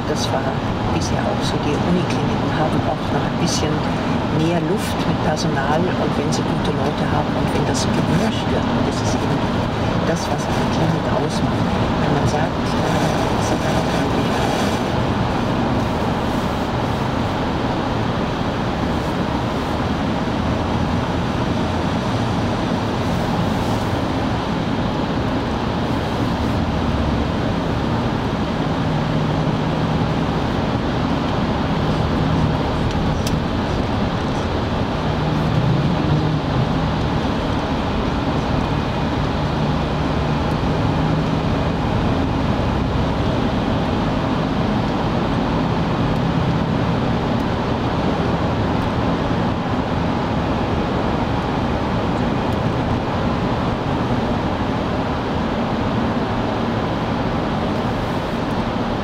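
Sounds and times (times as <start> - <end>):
low hum: 0.0 - 59.0
road and engine noise in car: 0.0 - 59.0.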